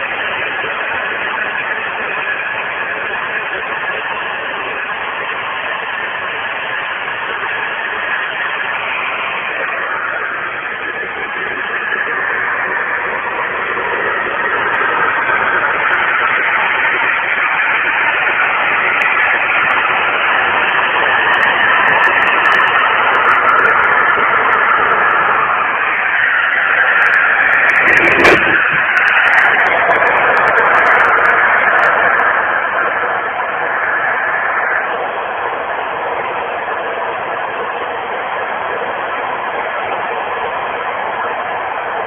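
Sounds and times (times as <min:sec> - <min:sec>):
radio static hiss: 0:00.0 - 0:42.0.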